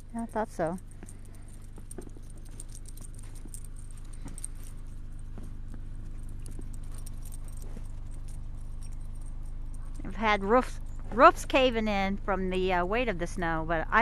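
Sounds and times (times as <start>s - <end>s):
light high-pitched clicks and jingles: 0.0s - 11.9s
car engine idling: 0.0s - 14.0s.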